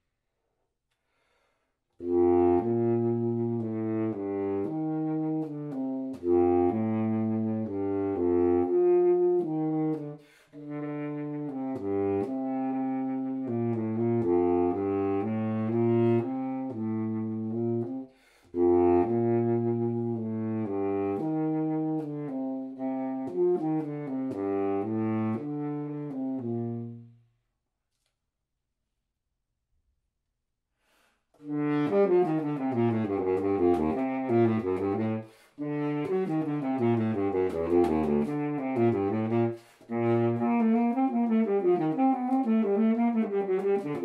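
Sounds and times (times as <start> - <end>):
baritone saxophone playing: 2.0 - 27.3, 31.4 - 44.0.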